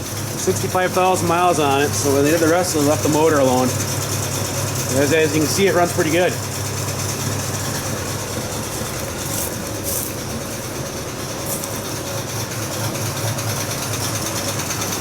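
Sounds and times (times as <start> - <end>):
car engine idling: 0.0 - 15.0
rapid ticking valve clatter: 0.0 - 15.0.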